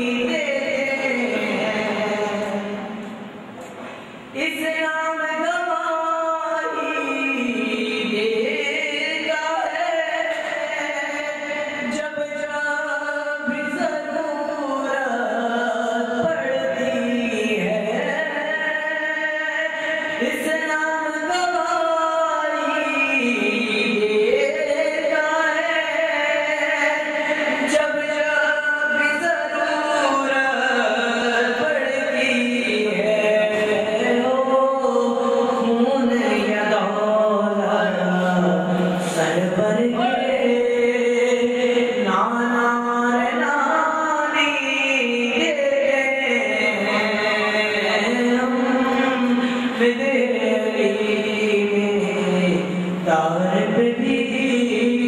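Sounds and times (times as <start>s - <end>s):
man singing devotional poem: 0.0s - 3.0s, 4.4s - 55.0s.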